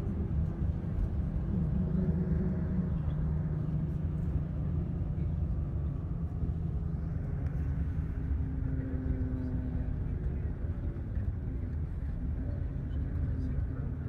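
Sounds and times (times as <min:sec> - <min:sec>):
vehicle engine and tyre rumble: 0:00.0 - 0:14.0.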